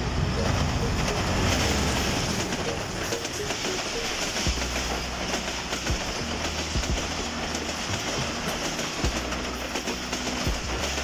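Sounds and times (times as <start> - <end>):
train wheels rumbling on rail: 0.0 - 11.0
wheels clacking on rail joints: 0.1 - 11.0.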